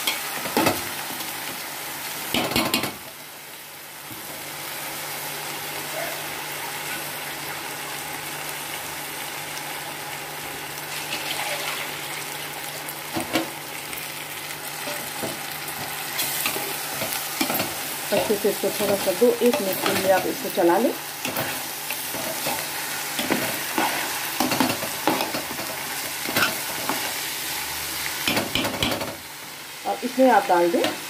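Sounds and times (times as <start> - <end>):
rice sizzling in hot oil: 0.0 - 31.0.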